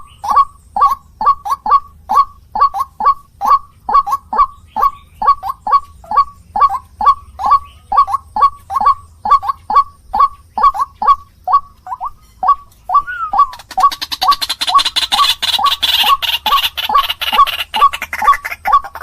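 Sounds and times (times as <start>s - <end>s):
waterhen honking calls: 0.0s - 19.0s.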